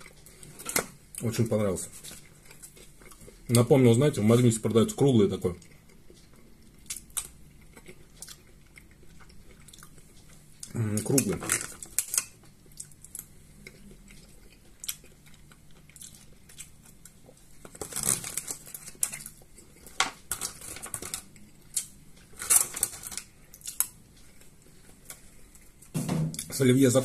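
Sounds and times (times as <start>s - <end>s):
chewing: 1.9s - 3.6s, 5.4s - 26.5s.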